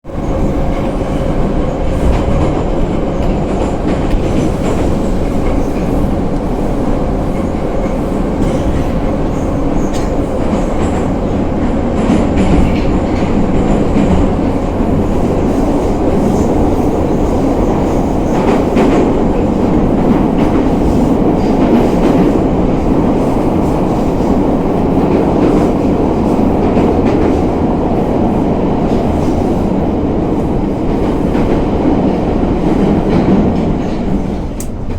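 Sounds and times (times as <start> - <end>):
train wheels clickety-clack: 0.1 - 34.9.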